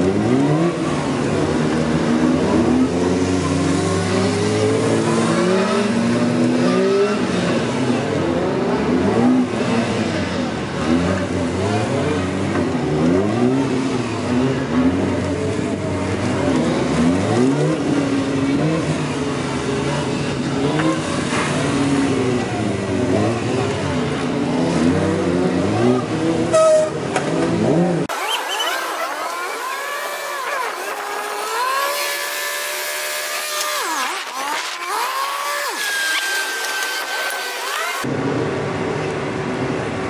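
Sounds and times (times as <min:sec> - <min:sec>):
motorcycle engine revving: 0:00.0 - 0:38.1.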